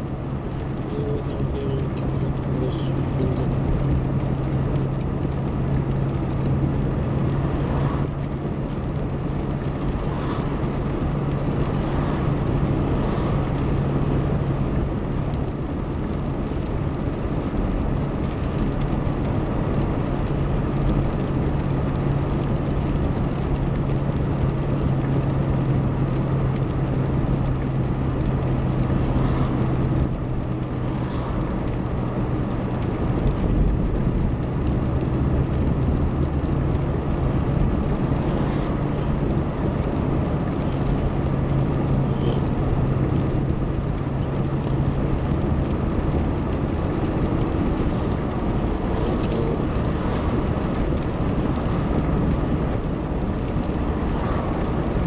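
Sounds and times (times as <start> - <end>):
car engine and road noise: 0.0 - 55.0
constant low hum: 0.0 - 55.0.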